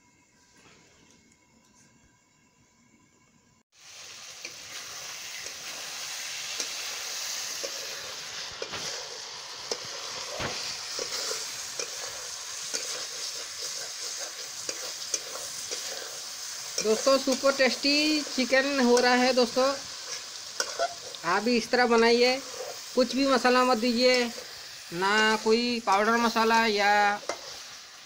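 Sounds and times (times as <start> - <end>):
curry sizzling in a pan: 3.7 - 28.0.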